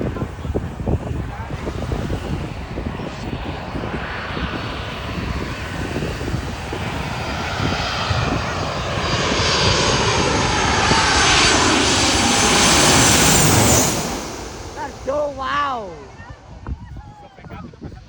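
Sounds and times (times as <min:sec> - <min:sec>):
jet airliner engines overhead: 0:00.0 - 0:18.0.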